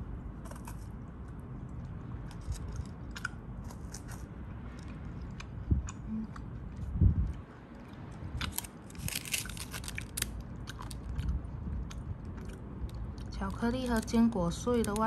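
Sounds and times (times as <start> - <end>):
crunching and chewing chocolate: 0.1 - 15.0.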